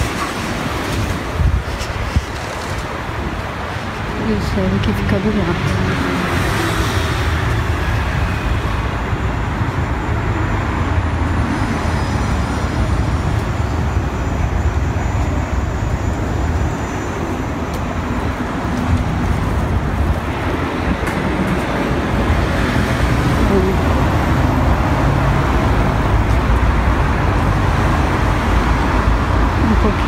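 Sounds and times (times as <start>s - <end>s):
road vehicles passing: 0.0s - 30.0s.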